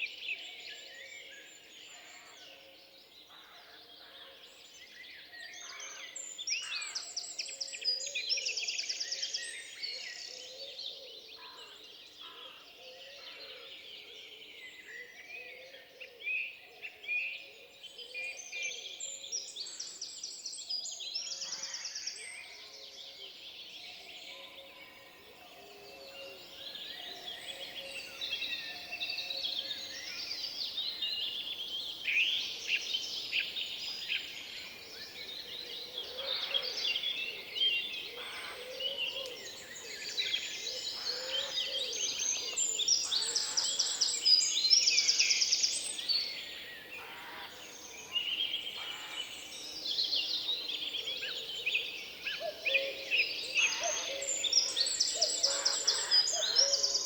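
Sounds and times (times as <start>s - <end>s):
songbirds singing and calling: 0.0s - 57.0s.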